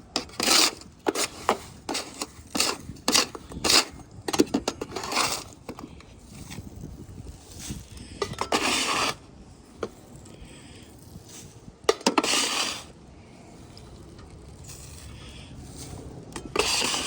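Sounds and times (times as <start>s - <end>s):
leaves scraped from gutter: 0.2s - 4.0s, 4.7s - 17.0s.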